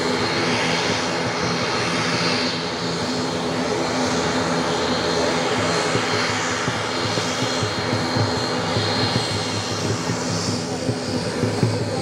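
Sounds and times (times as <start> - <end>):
propeller hum: 0.0 - 12.0
turboprop engine drone: 0.0 - 12.0.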